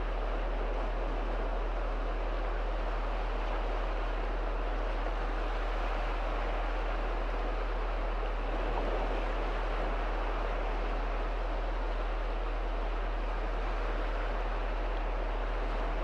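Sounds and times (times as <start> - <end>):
small waves washing in: 0.0 - 16.0.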